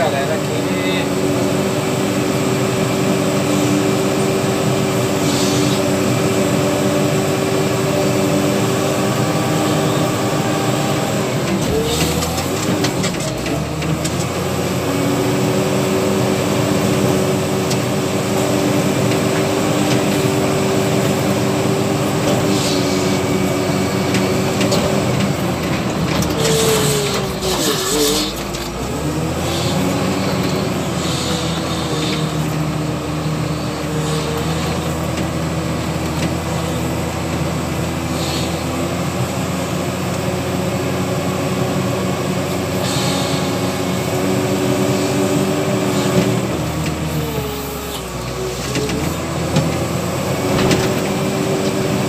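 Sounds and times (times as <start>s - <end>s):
diesel engine under load: 0.0s - 52.0s.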